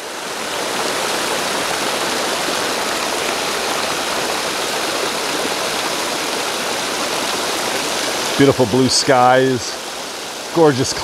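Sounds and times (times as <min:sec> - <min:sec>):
creek water rushing over rock: 0:00.0 - 0:11.0.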